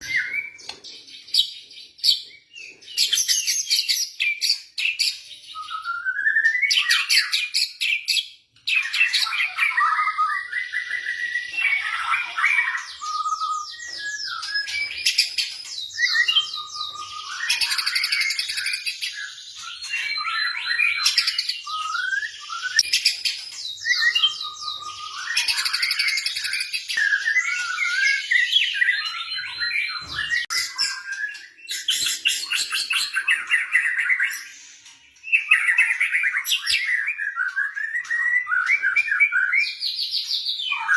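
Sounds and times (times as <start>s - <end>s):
bird singing whistled phrases and trills: 0.0s - 40.9s.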